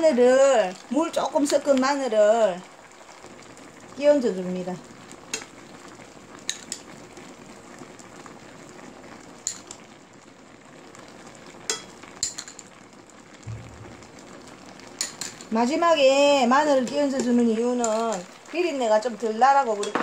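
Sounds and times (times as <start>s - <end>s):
wok simmering with bubbling hiss: 0.0s - 20.0s.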